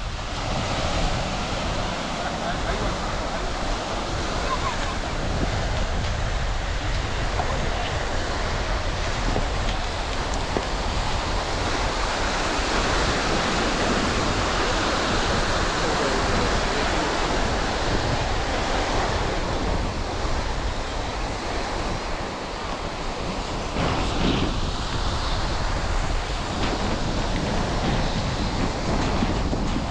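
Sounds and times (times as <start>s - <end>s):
surf washing onto beach: 0.0s - 29.9s
wind on microphone: 0.0s - 29.9s.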